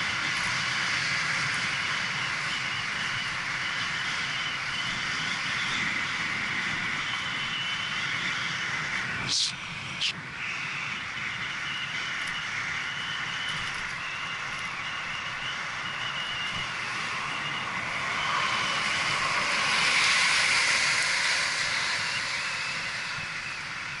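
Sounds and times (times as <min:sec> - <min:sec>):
bicycle road noise: 0:00.0 - 0:24.0.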